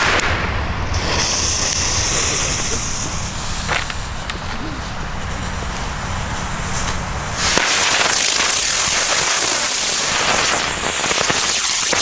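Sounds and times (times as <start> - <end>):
smoke fireworks hissing: 0.0 - 12.0.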